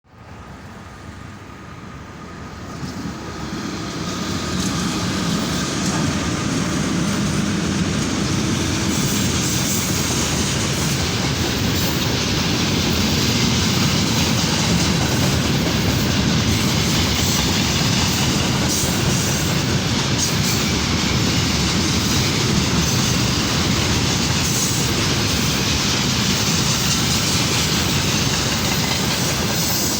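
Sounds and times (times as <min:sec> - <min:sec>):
freight train rolling on rails: 0:00.1 - 0:29.9.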